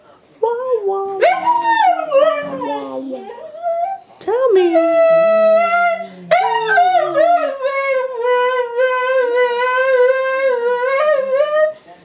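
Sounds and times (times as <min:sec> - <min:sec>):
dog howling: 0:01.2 - 0:04.0, 0:04.8 - 0:11.8.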